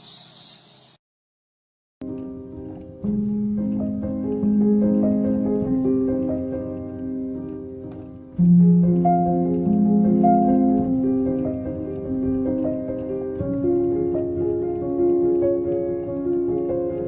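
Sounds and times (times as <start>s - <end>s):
piano playing slow chords: 2.0s - 17.0s.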